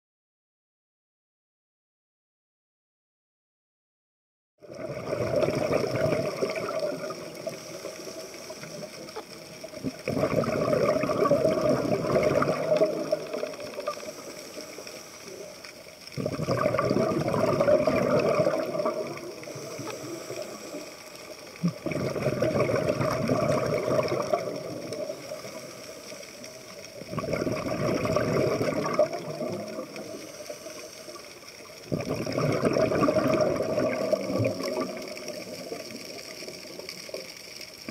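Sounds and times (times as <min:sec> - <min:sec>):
underwater air bubbling: 0:04.6 - 0:37.9.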